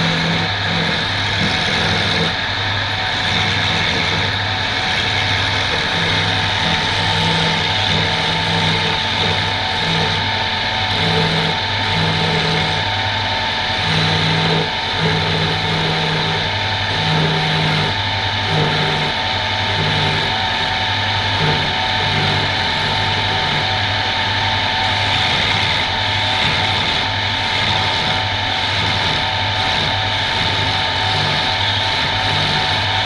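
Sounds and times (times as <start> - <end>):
woodworking machine motor running: 0.0 - 33.0.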